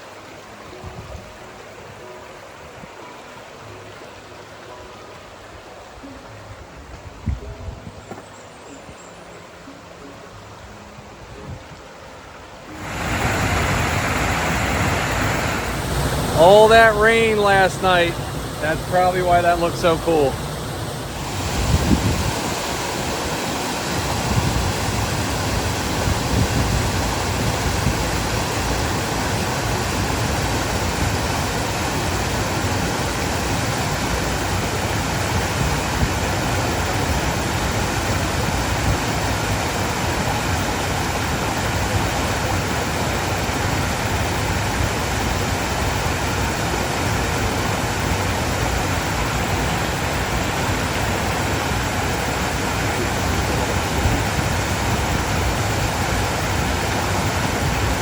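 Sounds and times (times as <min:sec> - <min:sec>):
stream water tumbling over rocks: 0:09.8 - 0:58.0.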